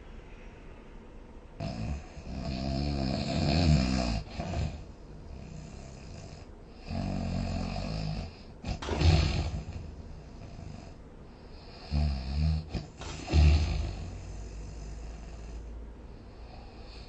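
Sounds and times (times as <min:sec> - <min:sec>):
person snoring: 0:01.6 - 0:15.7.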